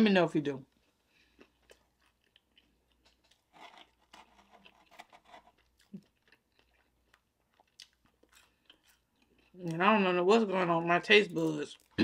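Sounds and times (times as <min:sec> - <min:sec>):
chewing crunchy food: 0:00.7 - 0:10.1, 0:11.2 - 0:12.0.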